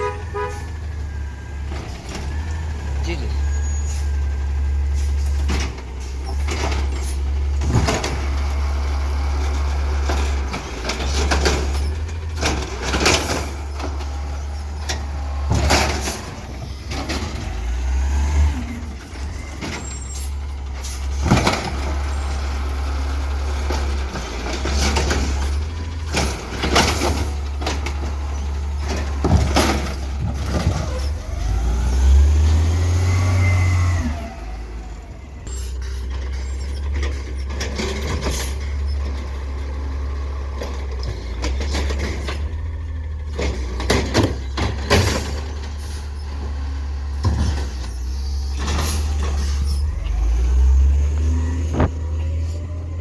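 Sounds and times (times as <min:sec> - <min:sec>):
truck engine drone: 0:00.0 - 0:53.0.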